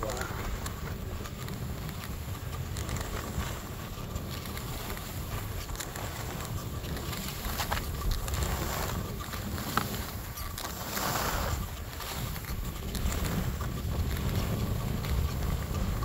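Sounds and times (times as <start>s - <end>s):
skis hissing on packed snow: 0.0s - 13.5s
skis scraping on snow: 0.0s - 16.0s
wind buffeting microphone: 0.0s - 16.0s.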